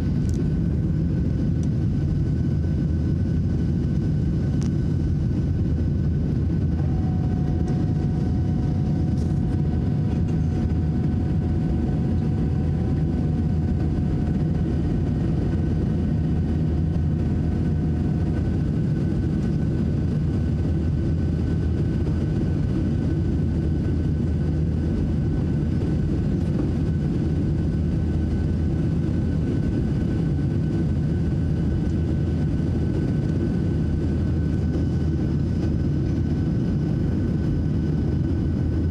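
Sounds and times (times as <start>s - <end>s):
faint steady whine: 0.0s - 38.9s
jet engine cabin rumble: 0.0s - 38.9s.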